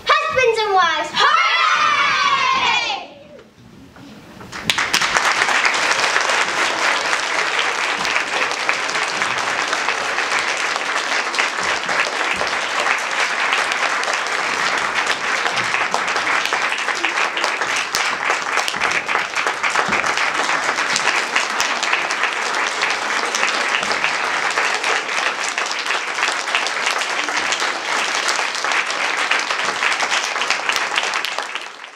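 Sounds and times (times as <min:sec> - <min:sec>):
audience applause: 0:04.5 - 0:31.9.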